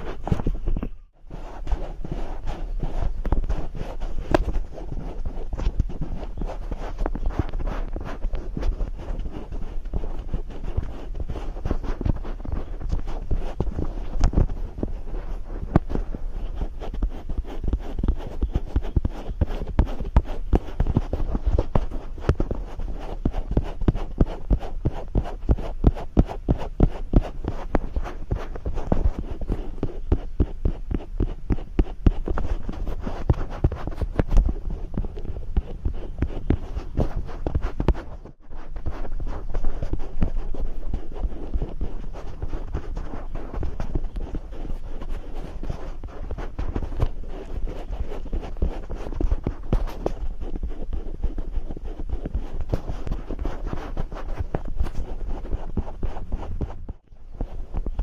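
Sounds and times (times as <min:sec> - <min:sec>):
fingers rubbing against microphone: 0:00.0 - 0:58.0
soft crackles: 0:00.0 - 0:58.0.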